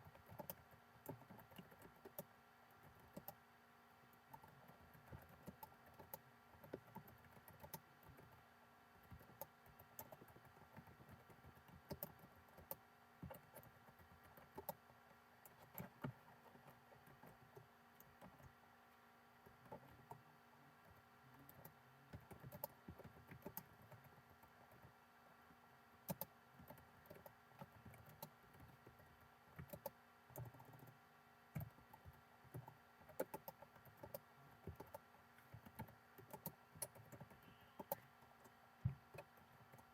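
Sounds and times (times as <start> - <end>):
typing on computer keyboard: 0.0 - 3.4, 4.2 - 8.4, 9.0 - 14.8, 15.4 - 18.5, 19.4 - 20.2, 20.8 - 24.9, 26.1 - 31.0, 31.6 - 39.9
faint electrical hum: 0.0 - 39.9.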